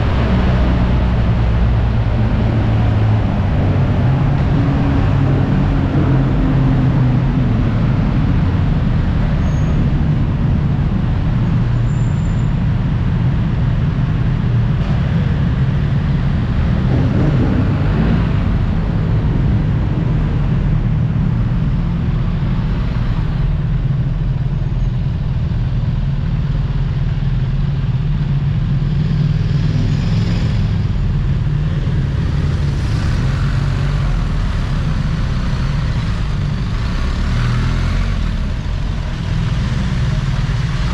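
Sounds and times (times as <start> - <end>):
road noise: 0.0 - 40.9.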